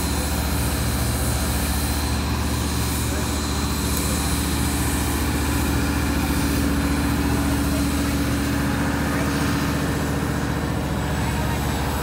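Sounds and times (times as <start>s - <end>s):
heavy engine humming: 0.0s - 12.0s.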